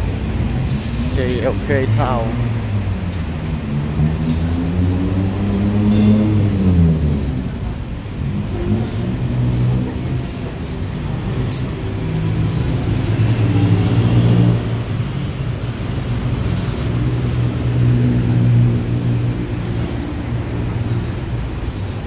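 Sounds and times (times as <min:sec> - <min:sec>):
street traffic passing: 0:00.0 - 0:22.0.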